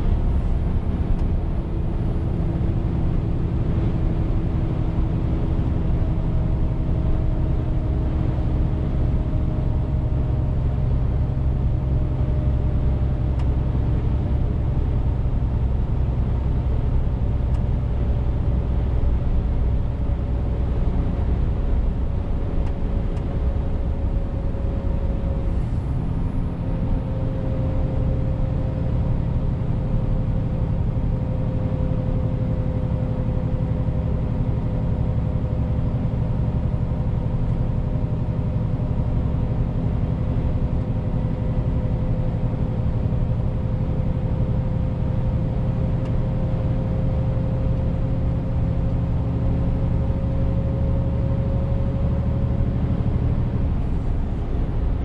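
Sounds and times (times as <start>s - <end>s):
diesel truck engine rumble: 0.0s - 55.0s
road noise: 0.0s - 55.0s.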